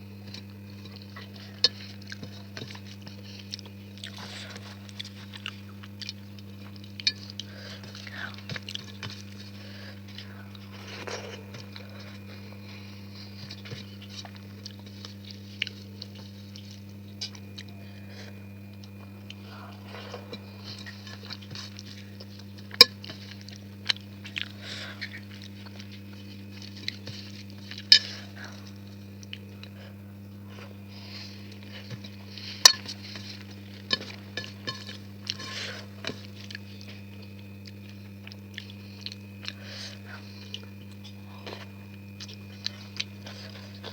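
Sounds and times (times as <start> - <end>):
steady low hum: 0.0 - 43.9
person chewing: 0.2 - 43.9.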